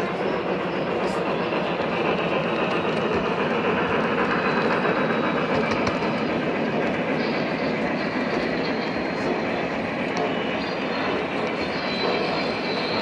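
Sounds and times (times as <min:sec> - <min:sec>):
model train wheels rumbling on rails: 0:00.0 - 0:13.0.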